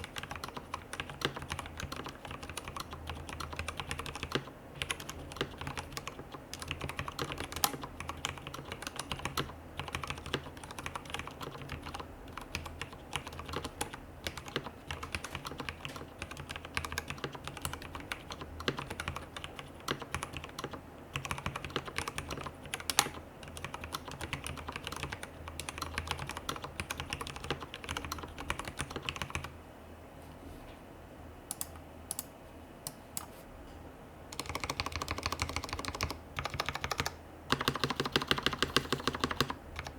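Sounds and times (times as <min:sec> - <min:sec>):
typing on mechanical keyboard: 0:00.0 - 0:29.5, 0:34.4 - 0:39.9.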